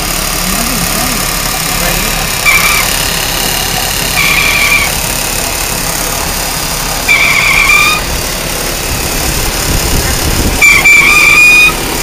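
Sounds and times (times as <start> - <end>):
car engine running: 0.0 - 12.0
high-pitched engine whine: 0.0 - 12.0.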